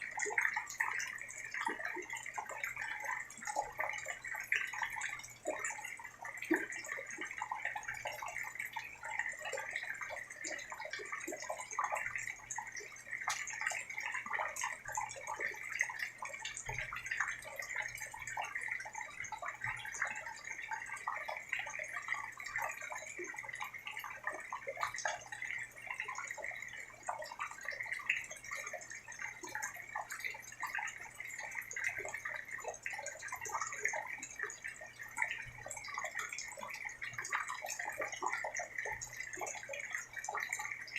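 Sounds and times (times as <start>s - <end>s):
close water drips: 0.0s - 40.9s.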